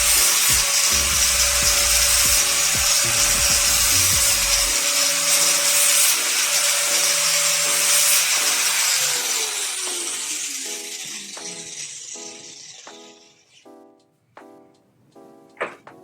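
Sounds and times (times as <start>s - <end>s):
angle grinder sanding wood: 0.0s - 13.6s.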